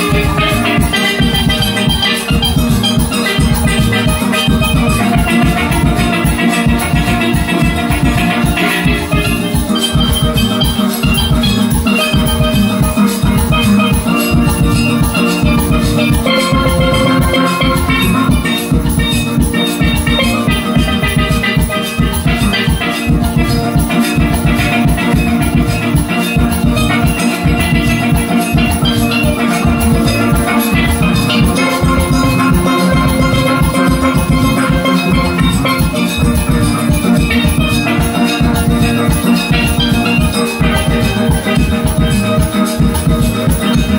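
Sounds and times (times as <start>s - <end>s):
drums keeping steady beat: 0.0s - 43.9s
steel pans playing melody: 0.0s - 43.9s.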